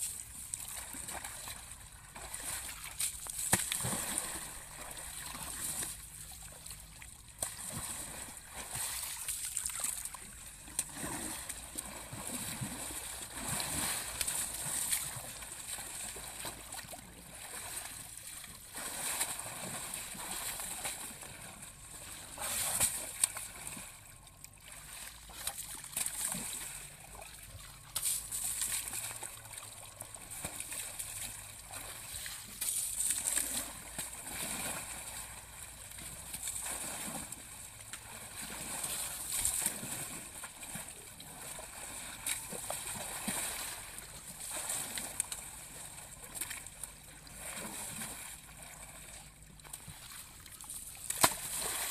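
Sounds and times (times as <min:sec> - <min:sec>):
water splashing and sloshing: 0:00.0 - 0:51.9.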